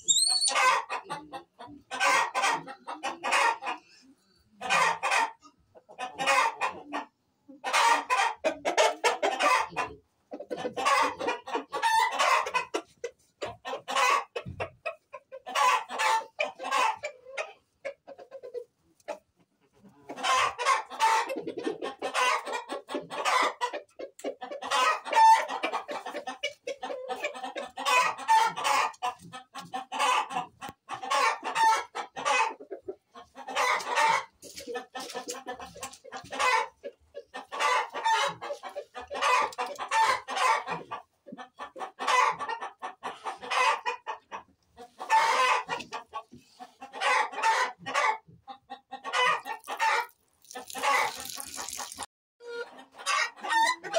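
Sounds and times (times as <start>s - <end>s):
chickens clucking and cackling: 0.0s - 53.9s.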